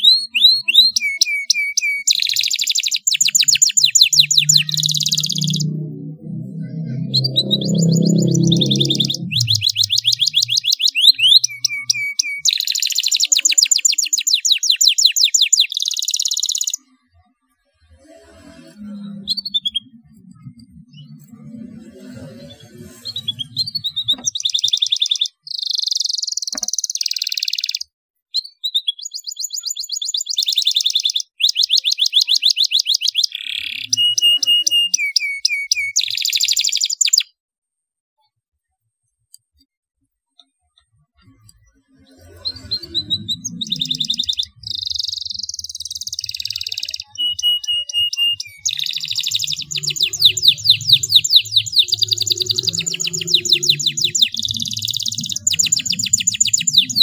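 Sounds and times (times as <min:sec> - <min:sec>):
canary trilling song: 0:00.0 - 0:17.3, 0:17.9 - 0:37.4, 0:41.0 - 0:57.0.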